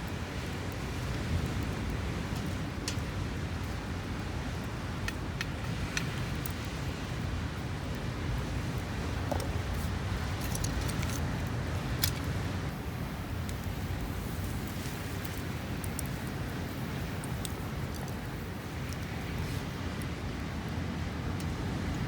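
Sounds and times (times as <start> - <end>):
campfire crackling: 0.0 - 22.0
sharp pops of burning wood: 0.6 - 7.2, 8.8 - 20.3.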